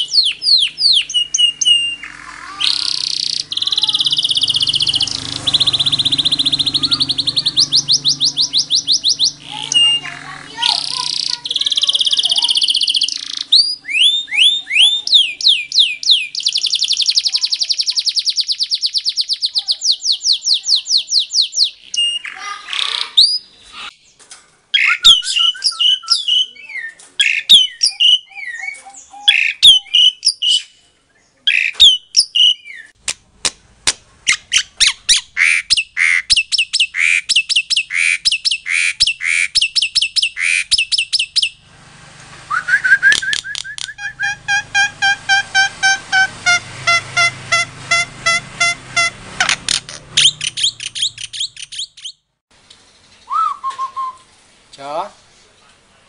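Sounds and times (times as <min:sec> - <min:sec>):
canary singing: 0:00.0 - 0:24.0, 0:24.7 - 0:33.0, 0:34.3 - 0:54.2.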